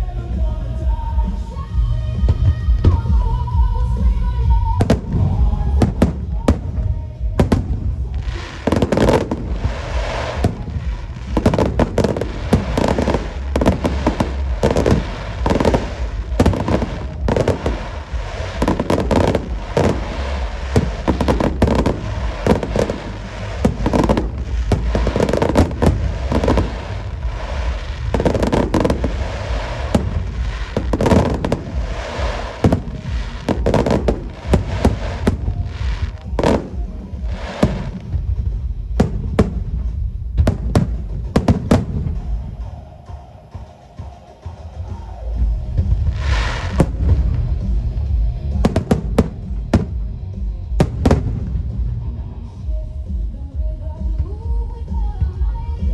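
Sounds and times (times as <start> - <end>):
low rumble: 0.0 - 43.3, 45.1 - 55.9
fireworks bursting with loud bangs: 0.4 - 52.6.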